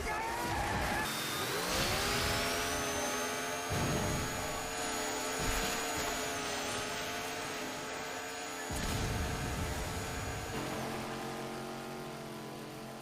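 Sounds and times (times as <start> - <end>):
chainsaw motor running: 1.0 - 13.0.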